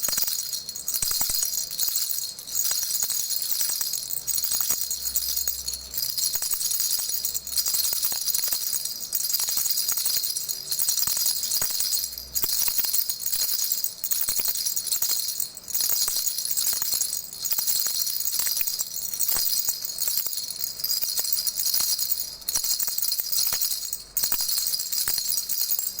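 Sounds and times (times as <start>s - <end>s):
baby rattle shaken: 0.0s - 26.0s.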